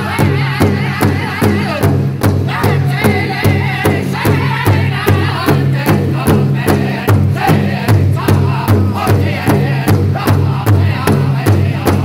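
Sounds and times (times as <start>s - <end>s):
high-pitched group singing: 0.0s - 12.0s
large drum beating in unison: 0.0s - 12.0s.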